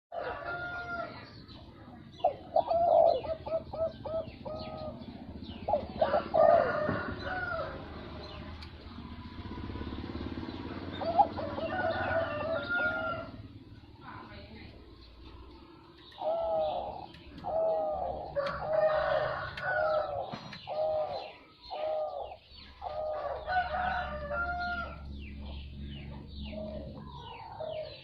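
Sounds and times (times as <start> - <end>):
dove cooing: 0.1 - 14.0, 14.9 - 28.0.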